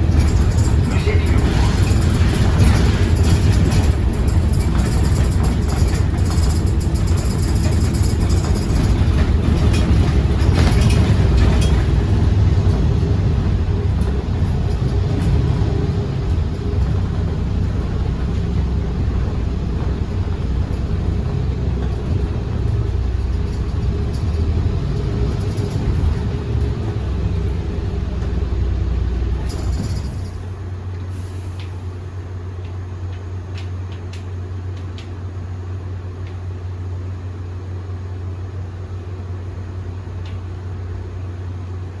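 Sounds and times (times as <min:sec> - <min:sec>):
bus engine rumble: 0:00.0 - 0:42.0.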